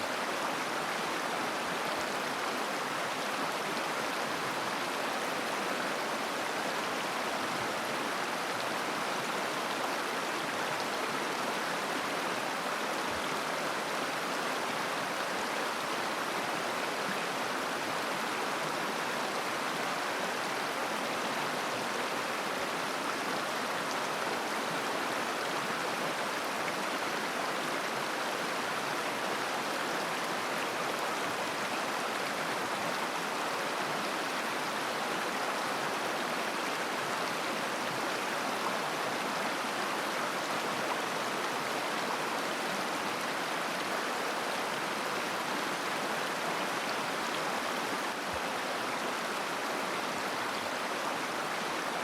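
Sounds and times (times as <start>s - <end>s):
river running over stones: 0.0s - 52.0s.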